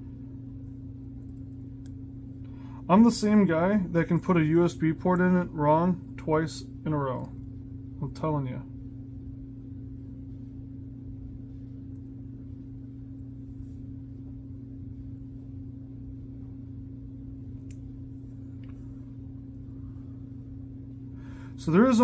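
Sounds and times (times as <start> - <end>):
low hum with higher overtone: 0.0 - 22.0.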